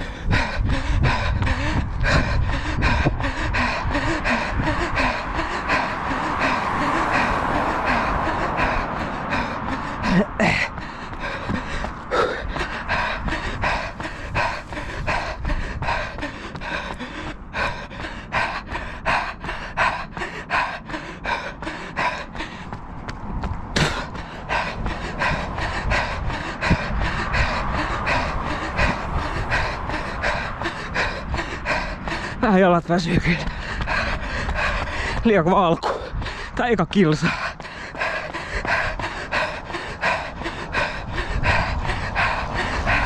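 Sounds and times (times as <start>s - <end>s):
runner breathing hard: 0.0s - 43.0s
running footsteps on asphalt: 0.0s - 43.0s.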